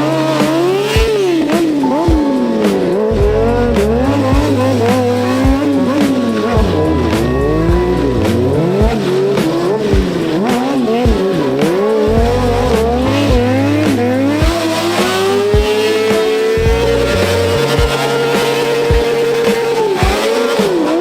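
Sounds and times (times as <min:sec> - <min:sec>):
motorcycle engine revving: 0:00.0 - 0:21.0
music with heavy bass beat: 0:00.0 - 0:21.0.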